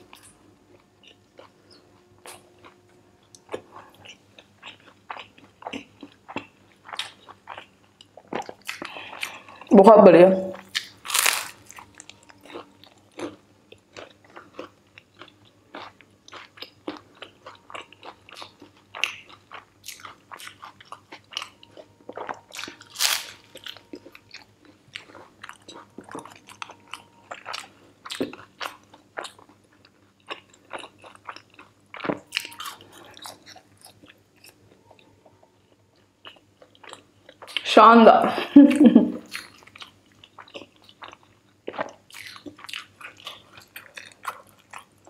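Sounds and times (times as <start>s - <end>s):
crunchy food chewing: 0.0s - 9.7s, 10.6s - 37.6s, 39.2s - 45.0s.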